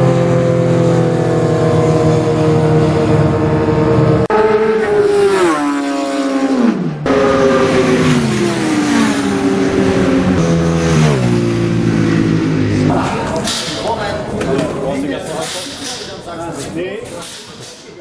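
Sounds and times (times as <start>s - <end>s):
motorcycle engine downshifting: 0.0s - 14.8s.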